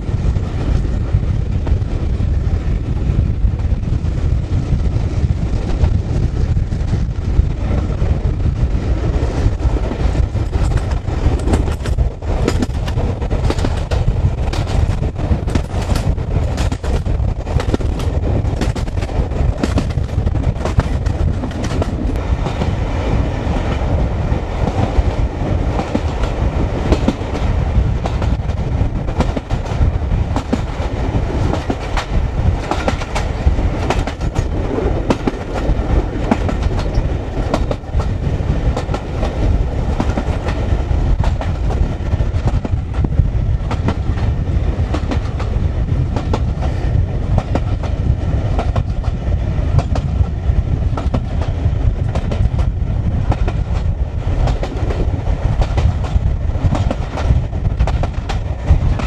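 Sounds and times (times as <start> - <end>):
wind on microphone: 0.0 - 59.0
train wheels clattering over rail joints: 3.5 - 22.8, 23.6 - 59.0.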